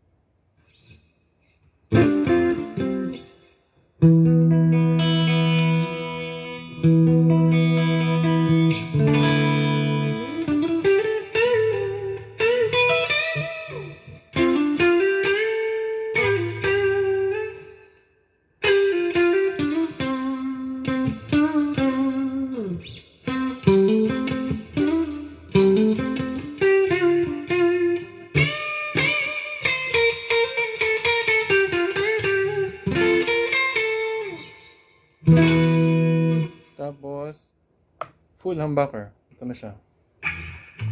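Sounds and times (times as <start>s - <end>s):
clean electric guitar with reverb: 1.9s - 37.0s, 40.2s - 40.9s.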